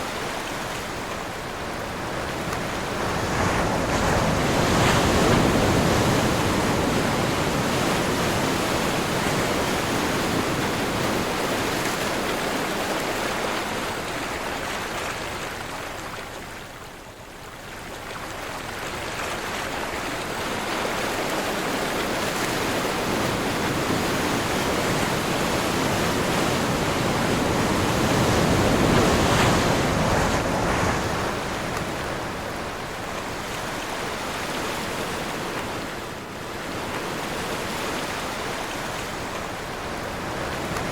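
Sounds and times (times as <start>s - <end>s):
ocean waves: 0.0s - 40.9s
wind: 0.0s - 40.9s.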